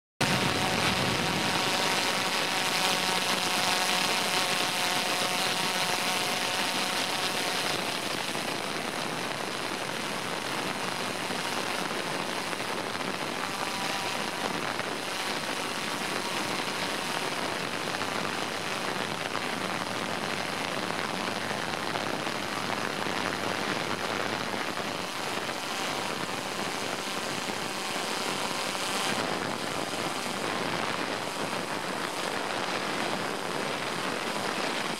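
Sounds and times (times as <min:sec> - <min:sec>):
drone rotors whirring: 0:00.2 - 0:34.9.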